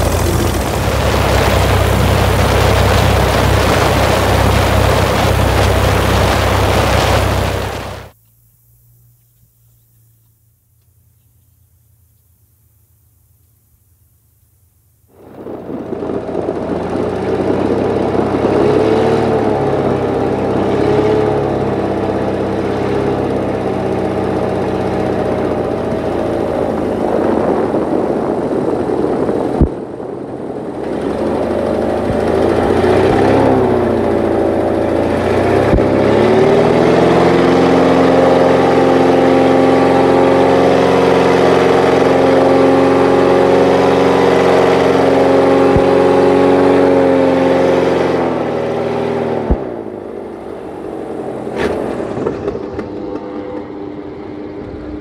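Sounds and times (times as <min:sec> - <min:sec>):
airboat engine and propeller: 0:00.0 - 0:08.2, 0:15.0 - 0:55.0.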